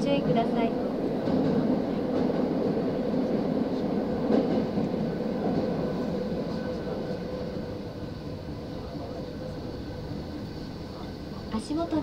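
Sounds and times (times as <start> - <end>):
subway train running noise: 0.0 - 12.0.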